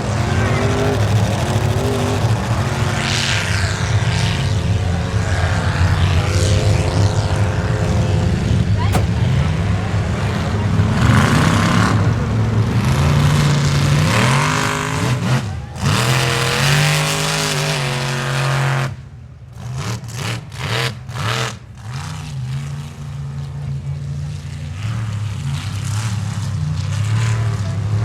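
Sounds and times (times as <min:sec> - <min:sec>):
truck engine revving hard: 0:00.0 - 0:22.8.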